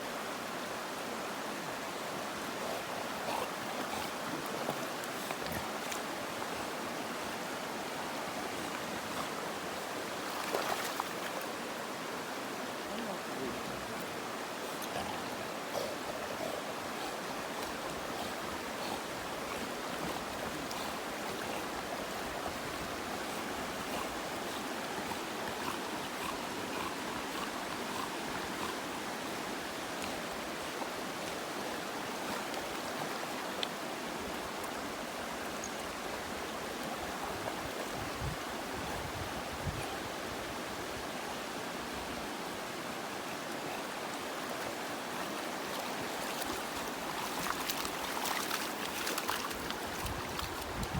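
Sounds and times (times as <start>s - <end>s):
stream water running over rocks: 0.0s - 50.9s.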